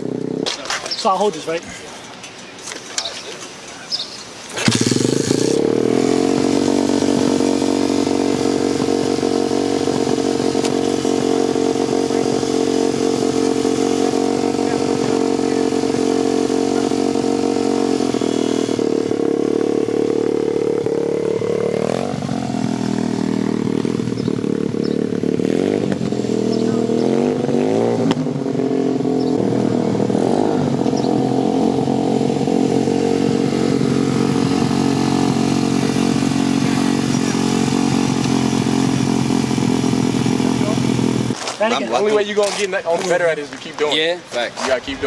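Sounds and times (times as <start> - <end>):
dirt bike engine revving: 0.0 - 1.6, 4.5 - 43.4.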